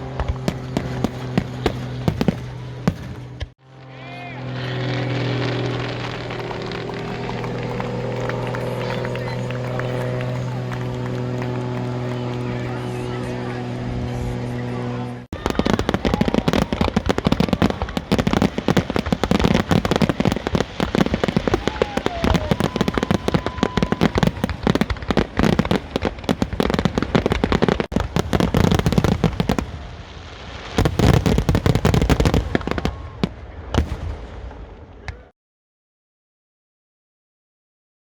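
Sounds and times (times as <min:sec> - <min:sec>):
fireworks bangs and crackles: 0:00.0 - 0:03.6, 0:04.4 - 0:14.5, 0:15.3 - 0:35.3.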